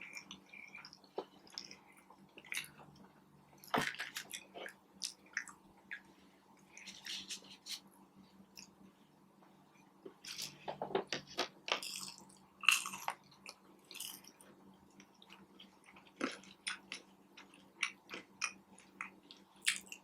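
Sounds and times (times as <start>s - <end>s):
chewing and wet mouth sounds: 0.0s - 7.7s, 11.4s - 20.0s.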